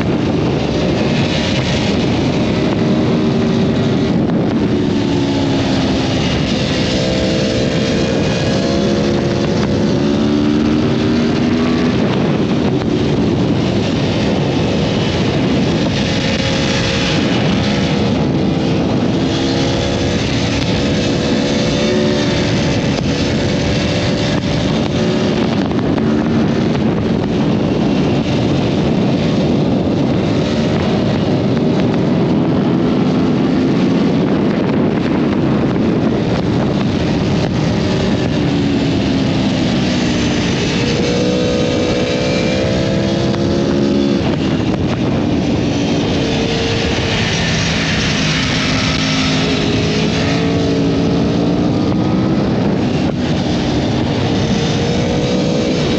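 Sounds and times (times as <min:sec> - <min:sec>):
heavy wind rush: 0:00.0 - 0:55.9
motorcycle engine revving: 0:00.0 - 0:55.9.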